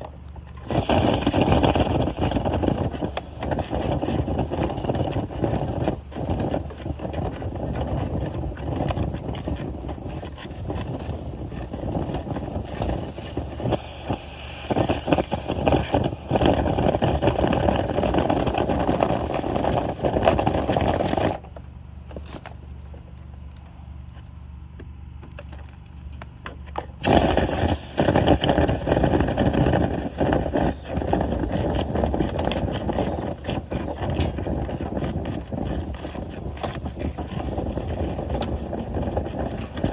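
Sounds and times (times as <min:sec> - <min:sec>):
motor tool scraping and rattling: 0:00.0 - 0:23.0, 0:26.6 - 0:39.9
steady low hum: 0:00.0 - 0:39.9.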